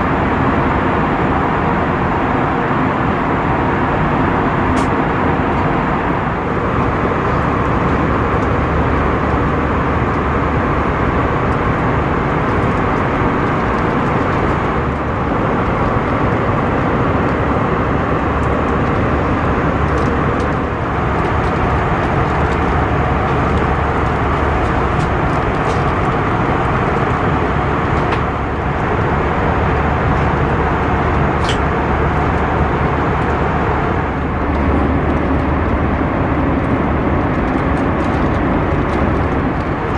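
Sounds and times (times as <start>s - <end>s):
aircraft cabin engine and airflow: 0.0s - 39.9s.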